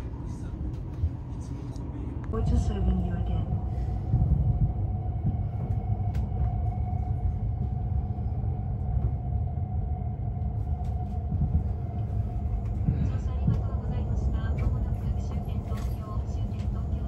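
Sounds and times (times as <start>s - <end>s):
train running gear rumble: 0.0s - 17.0s.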